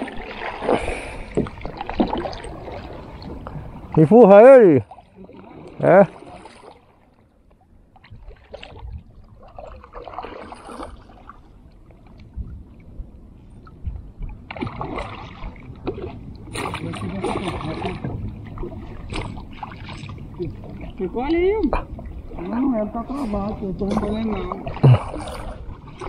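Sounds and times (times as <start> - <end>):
water splashing around kayak: 0.0 - 26.0.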